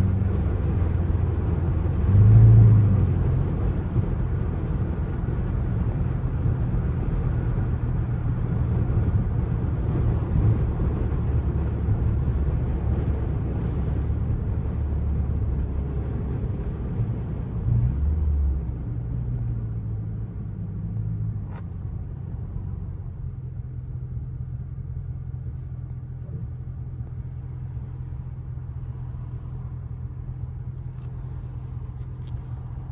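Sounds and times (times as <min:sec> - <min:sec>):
car exhaust rumbling: 0:00.0 - 0:32.9.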